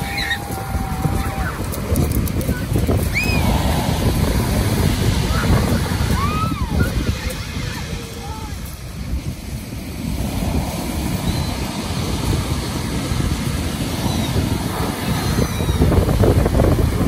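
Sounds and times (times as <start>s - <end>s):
waves breaking on shingle: 0.0s - 17.0s
wind buffeting microphone: 0.0s - 17.0s.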